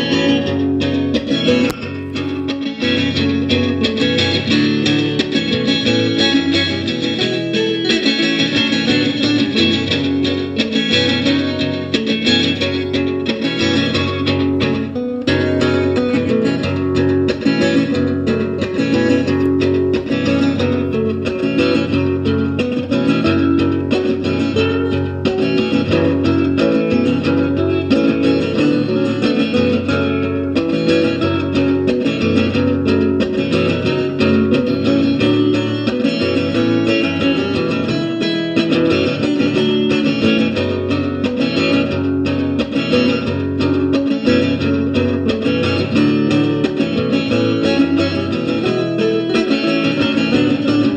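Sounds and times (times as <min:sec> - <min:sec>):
acoustic guitar strummed and picked: 0:00.0 - 0:50.9.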